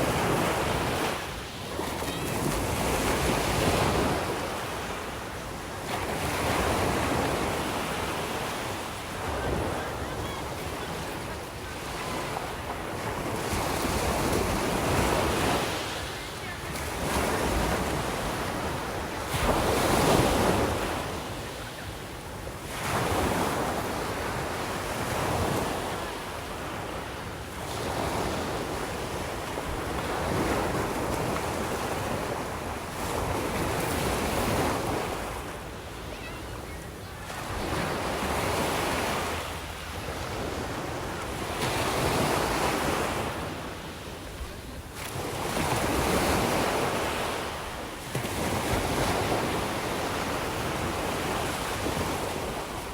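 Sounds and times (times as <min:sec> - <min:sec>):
sea waves breaking on shore: 0:00.0 - 0:52.9.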